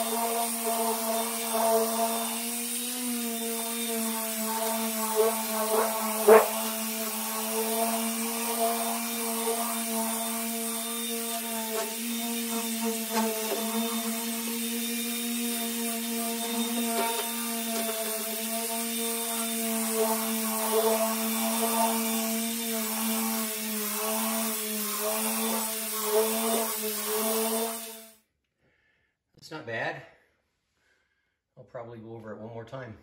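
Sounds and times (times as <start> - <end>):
electric polisher running: 0.0 - 28.1.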